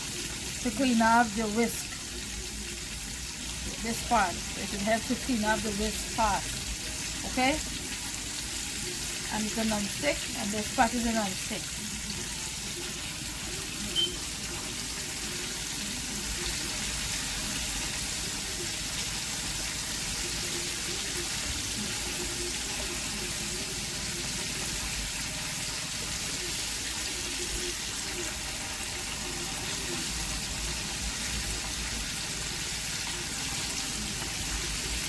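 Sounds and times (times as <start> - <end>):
chicken frying in hot oil: 0.0 - 35.0.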